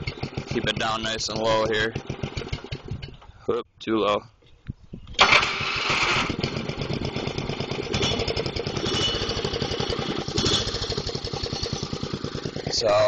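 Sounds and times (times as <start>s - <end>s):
small gasoline engine idling: 0.0s - 3.2s, 5.2s - 13.0s.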